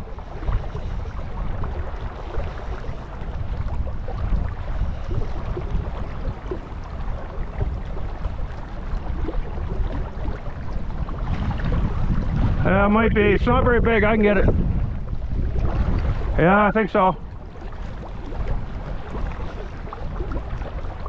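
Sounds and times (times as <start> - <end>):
choppy river water: 0.0 - 21.0
wind rumbling on microphone: 0.0 - 21.0.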